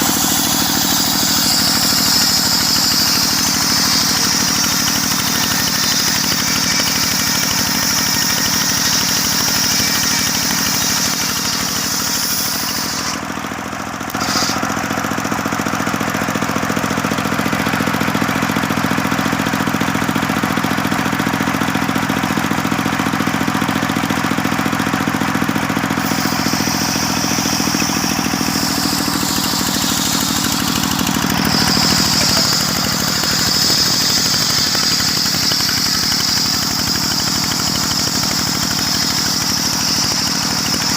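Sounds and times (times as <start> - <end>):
high saw whine: 0.0 - 40.9
sawmill machine drone: 0.0 - 40.9.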